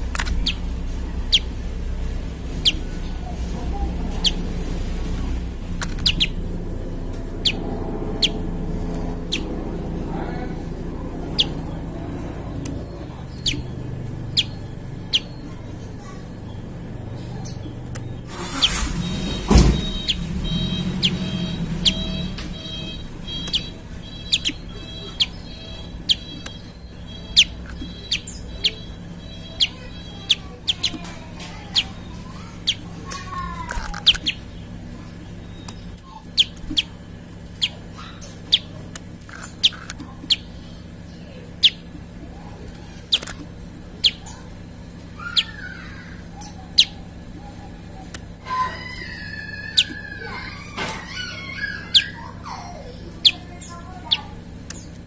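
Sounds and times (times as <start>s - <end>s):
bird chip calls: 0.0s - 55.0s
bird trilling: 0.0s - 55.0s.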